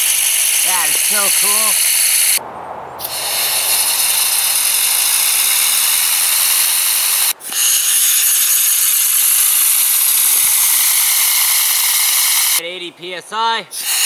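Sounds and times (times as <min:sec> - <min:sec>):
air turbine rushing: 0:00.0 - 0:12.6.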